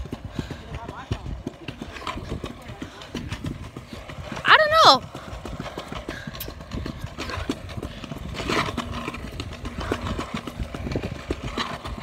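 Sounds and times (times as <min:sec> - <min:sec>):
scooter wheels rumbling on concrete: 0:00.0 - 0:12.0
wheels clacking over joints: 0:00.0 - 0:12.0.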